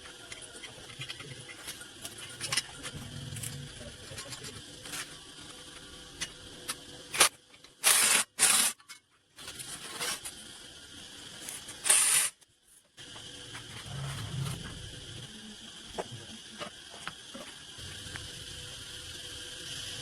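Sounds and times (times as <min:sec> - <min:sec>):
arc welding crackling hiss: 0:00.0 - 0:08.8, 0:09.5 - 0:20.0.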